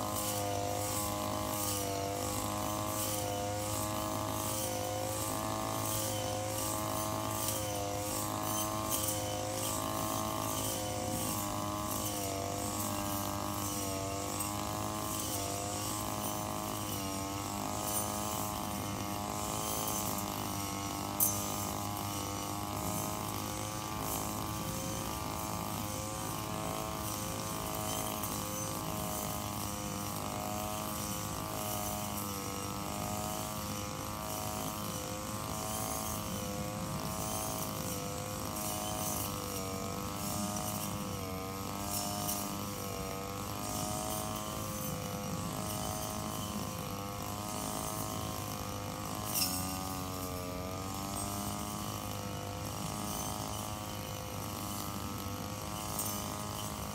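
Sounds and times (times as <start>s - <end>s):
brush cutter engine: 0.0s - 56.9s.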